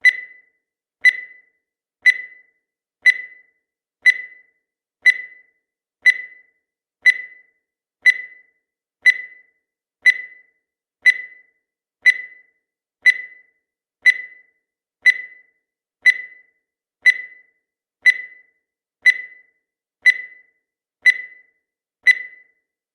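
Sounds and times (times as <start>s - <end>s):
timer ticking with bright ring: 0.0s - 22.8s.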